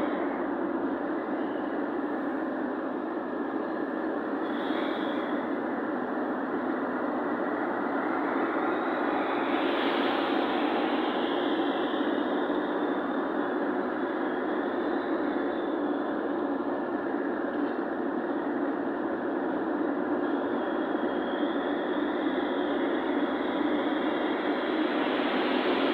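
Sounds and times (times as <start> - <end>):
vehicle road noise: 0.0 - 25.9.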